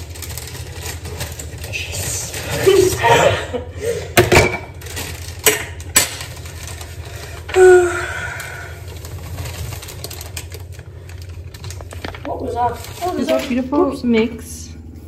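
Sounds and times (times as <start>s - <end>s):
plastic bag crinkling: 0.0s - 3.7s, 4.6s - 14.1s.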